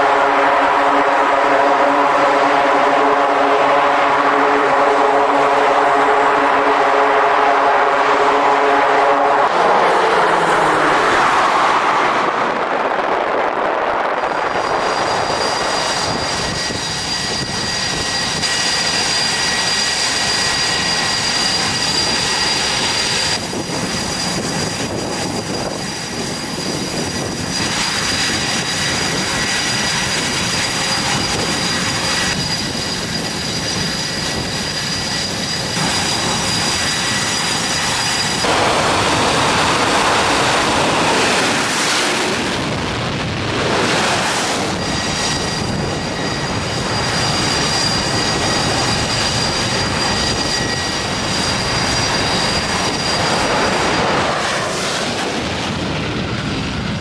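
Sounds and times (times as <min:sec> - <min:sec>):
jet engines whining: 0:00.0 - 0:57.0
jet taking off: 0:00.0 - 0:57.0.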